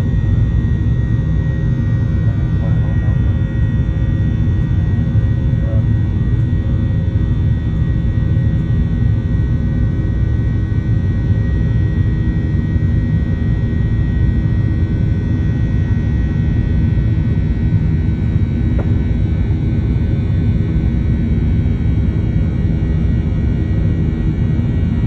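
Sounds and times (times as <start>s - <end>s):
jet engine rumble in cabin: 0.0s - 25.0s.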